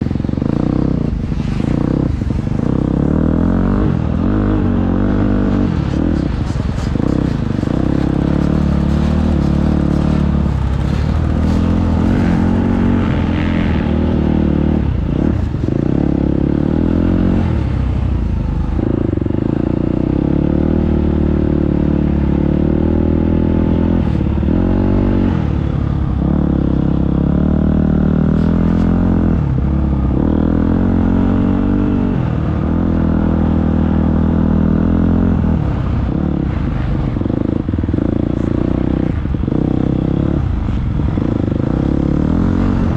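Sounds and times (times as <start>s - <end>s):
motocross bike engine revving: 0.0s - 17.7s, 26.2s - 42.9s.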